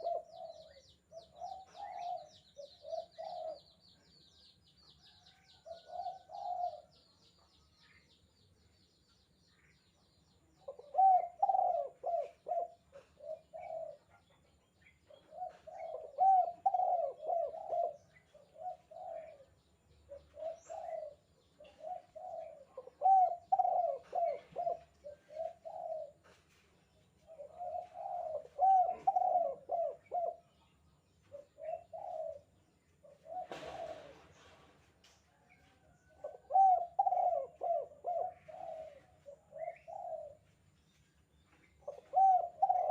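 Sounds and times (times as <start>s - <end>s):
dove cooing: 0.0s - 4.5s, 5.1s - 7.0s, 10.6s - 40.6s, 41.6s - 42.9s.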